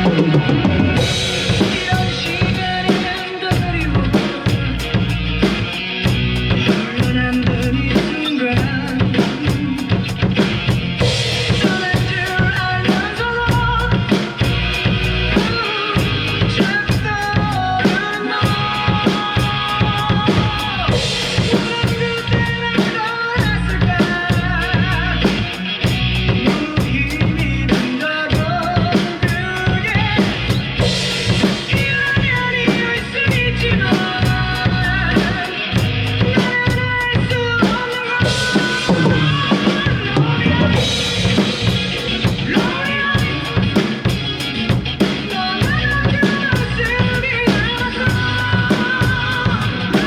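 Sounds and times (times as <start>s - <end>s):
drum kit playing a beat: 0.0s - 50.0s
recorded song with singer: 0.0s - 50.0s.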